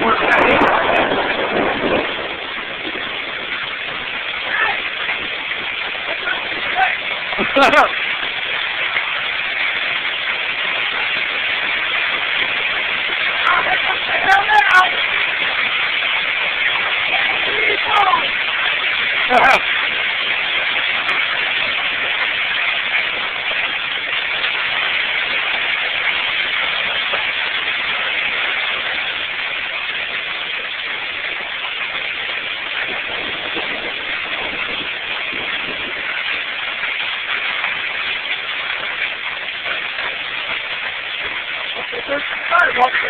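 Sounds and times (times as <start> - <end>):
hail and heavy rain pelting: 0.0 - 43.0.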